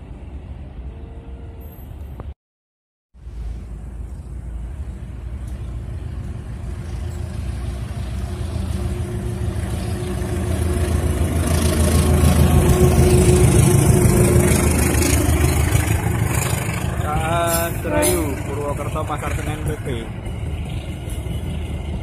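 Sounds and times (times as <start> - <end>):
locomotive diesel engine: 3.2 - 22.0.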